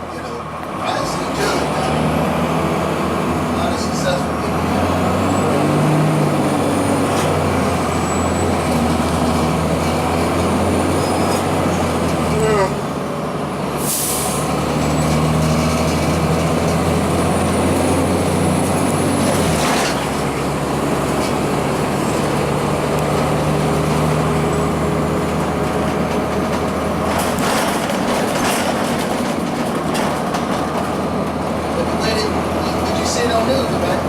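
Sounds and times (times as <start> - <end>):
diesel bus engine running: 0.0 - 34.0.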